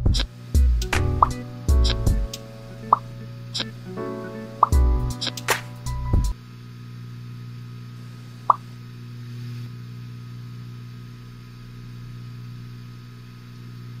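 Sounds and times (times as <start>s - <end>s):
low hum: 0.0s - 13.9s.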